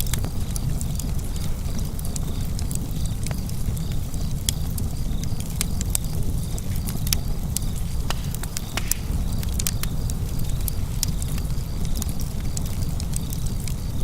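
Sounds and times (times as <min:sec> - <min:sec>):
fire flames roaring: 0:00.0 - 0:14.0
wood fire crackling and popping: 0:00.0 - 0:14.0.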